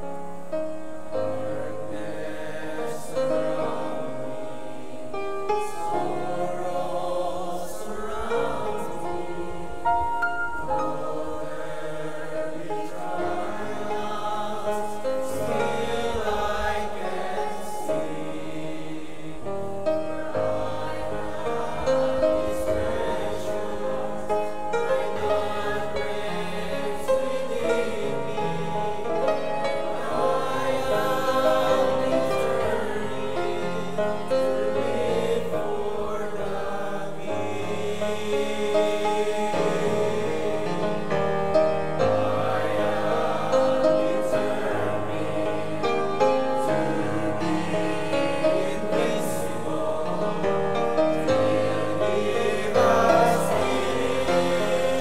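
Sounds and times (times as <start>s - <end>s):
mixed choir singing a hymn: 0.0s - 55.0s
piano accompaniment: 0.0s - 55.0s.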